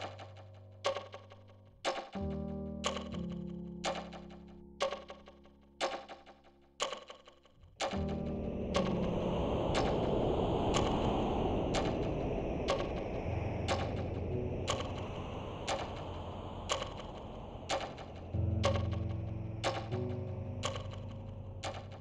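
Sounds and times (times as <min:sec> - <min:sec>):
clock ticking: 0:00.0 - 0:10.1, 0:10.7 - 0:11.0, 0:11.8 - 0:13.1, 0:13.7 - 0:15.1, 0:15.7 - 0:22.0.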